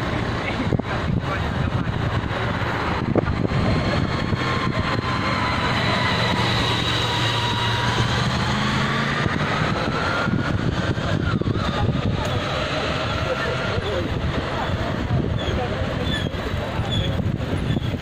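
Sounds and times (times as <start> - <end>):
low engine hum: 0.0 - 18.0
wind and road noise: 0.0 - 18.0.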